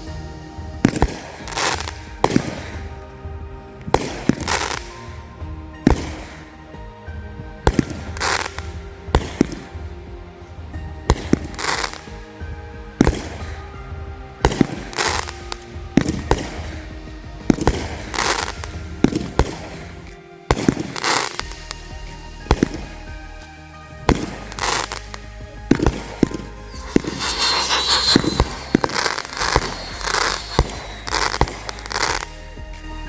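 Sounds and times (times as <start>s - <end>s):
background music: 0.0s - 33.0s
hissing crackle: 5.8s - 32.8s.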